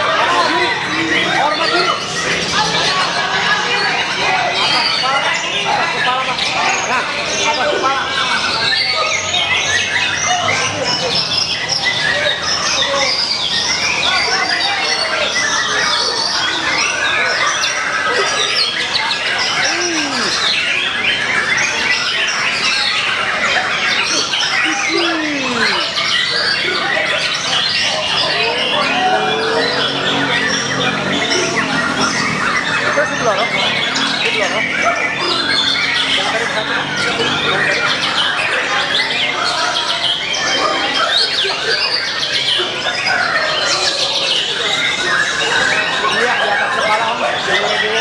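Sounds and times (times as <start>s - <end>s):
bird singing whistles and chatter: 0.0s - 48.0s
chorus of songbirds: 0.0s - 48.0s.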